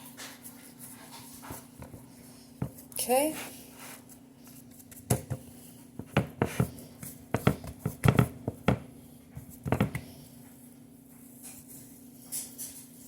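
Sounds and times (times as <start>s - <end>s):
hands patting dough: 0.0s - 11.9s.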